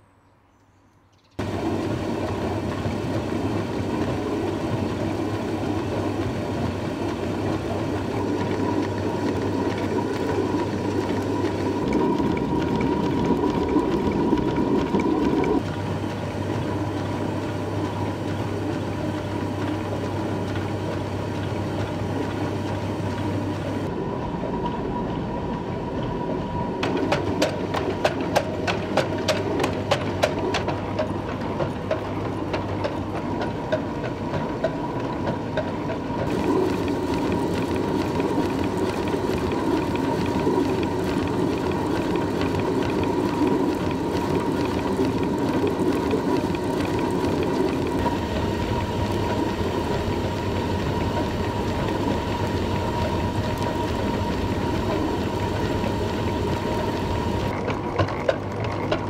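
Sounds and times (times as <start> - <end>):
mill humming and grinding: 1.4 - 59.0.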